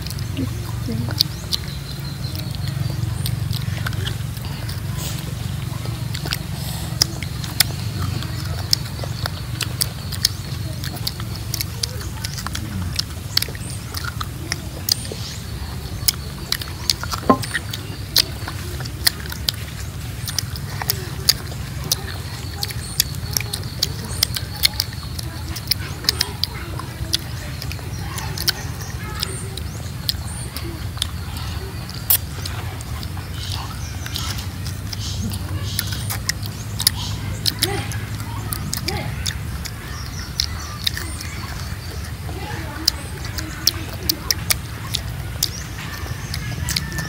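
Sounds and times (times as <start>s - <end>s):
crunchy fruit biting and chewing: 0.0s - 47.0s.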